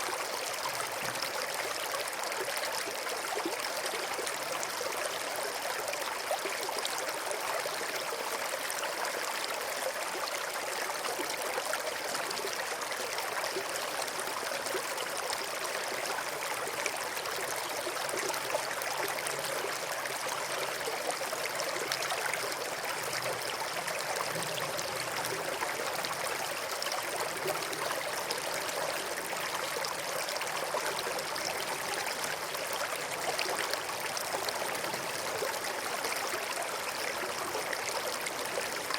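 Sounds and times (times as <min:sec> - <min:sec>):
river water babbling over rocks: 0:00.0 - 0:38.9.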